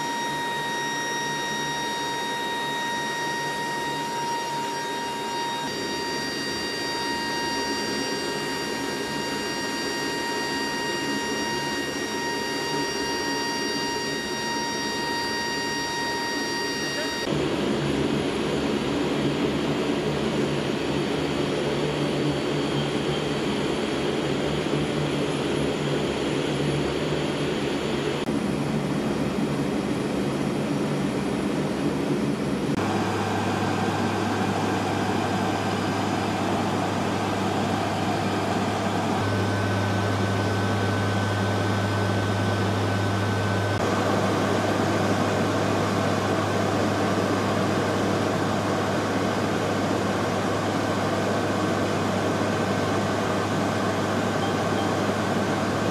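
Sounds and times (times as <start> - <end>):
low hum shifting in pitch: 0.0 - 48.9
turboprop engines droning: 0.0 - 55.9.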